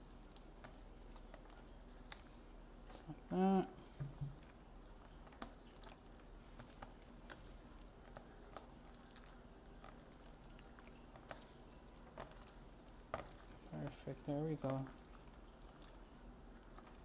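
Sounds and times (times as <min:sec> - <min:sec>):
slime squelching and clicking: 0:00.2 - 0:17.0.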